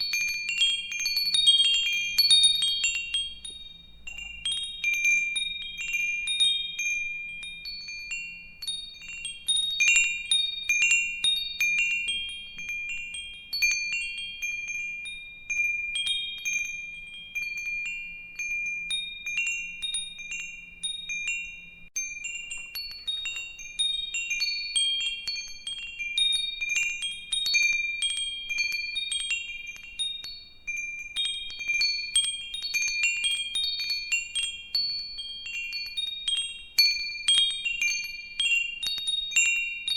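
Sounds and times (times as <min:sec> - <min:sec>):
metal wind chimes ringing: 0:00.0 - 0:39.9.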